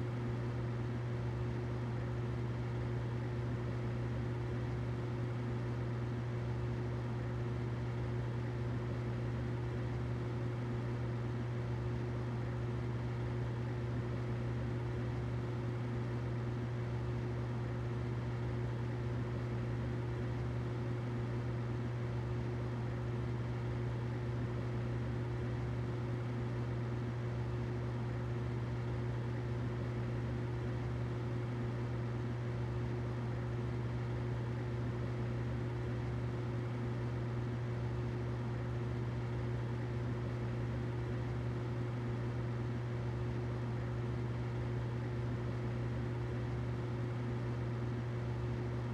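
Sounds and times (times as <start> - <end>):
humidifier running: 0.0 - 48.9.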